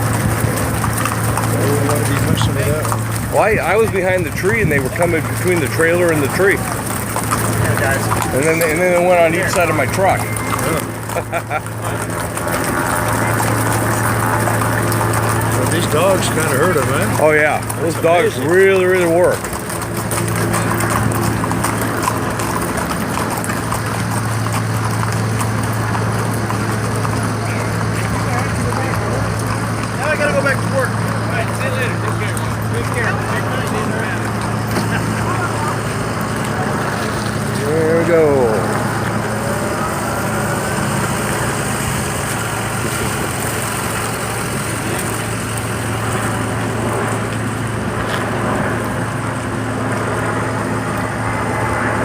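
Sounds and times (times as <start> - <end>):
engine hum: 0.0 - 52.0
hooves clattering on pavement: 0.0 - 52.0.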